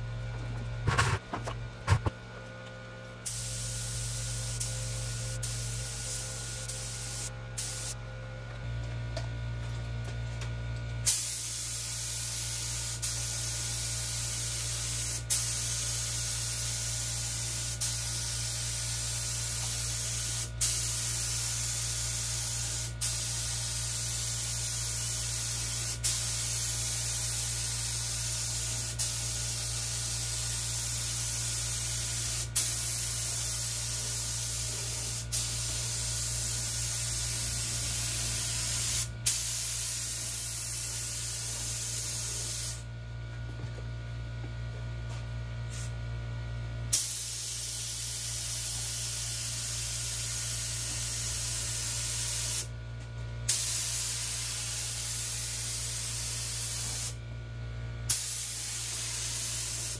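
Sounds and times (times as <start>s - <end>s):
steady low hum: 0.0s - 52.3s
air spray gun hissing: 3.2s - 8.0s, 11.0s - 42.9s, 45.7s - 45.9s, 46.9s - 52.7s, 53.5s - 57.2s, 58.1s - 59.9s.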